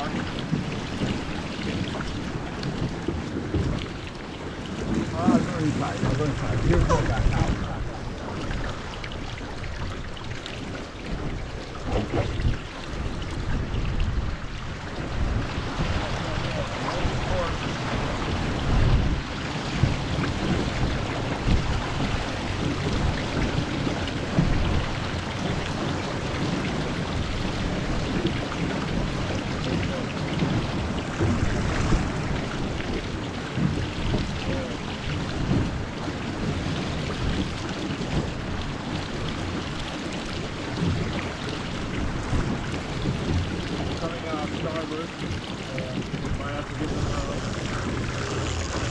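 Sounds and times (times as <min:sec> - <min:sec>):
water rushing past hull: 0:00.0 - 0:48.9
wind buffeting microphone: 0:00.0 - 0:48.9.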